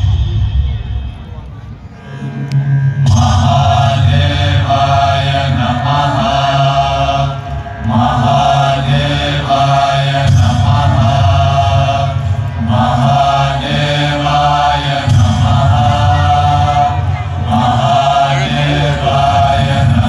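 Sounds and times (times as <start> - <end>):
low drone: 0.0 - 20.0
voices chanting with music: 0.0 - 20.0.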